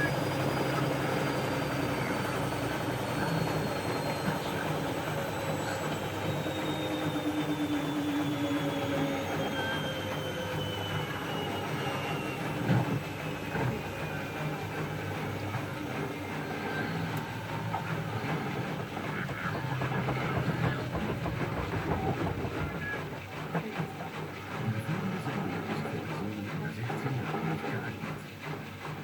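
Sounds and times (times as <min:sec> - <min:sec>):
washing machine drum rumbling: 0:00.0 - 0:26.4
faint motor whine: 0:00.0 - 0:29.0.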